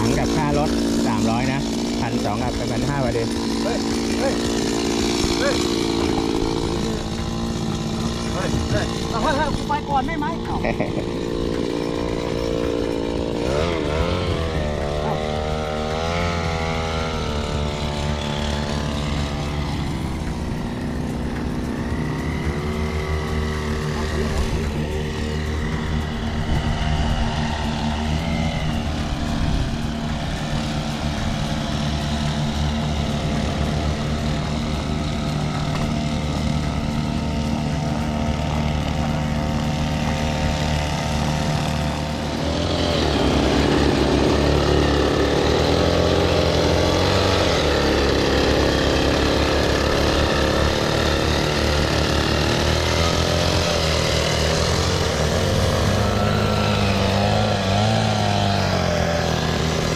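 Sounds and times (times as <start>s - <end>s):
backpack sprayer engines running: 0.0s - 59.9s.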